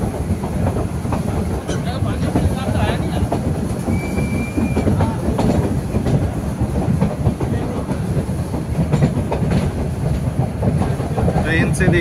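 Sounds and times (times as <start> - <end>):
train coaches rumbling: 0.0 - 12.0
wheels clacking over rail joints: 0.0 - 12.0.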